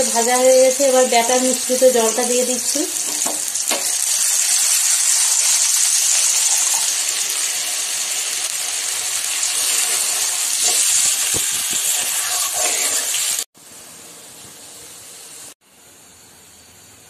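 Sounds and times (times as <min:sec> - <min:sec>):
oil sizzling in a pan: 0:00.0 - 0:15.6.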